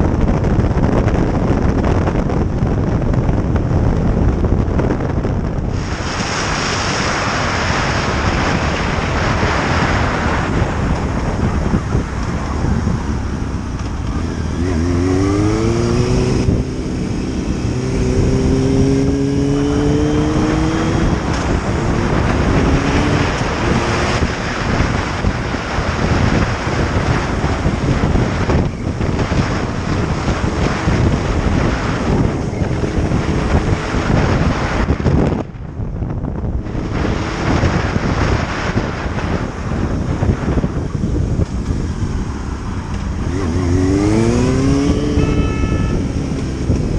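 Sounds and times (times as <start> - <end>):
motorcycle engine accelerating: 0.0 - 46.9
wind rushing over microphone: 0.0 - 46.9.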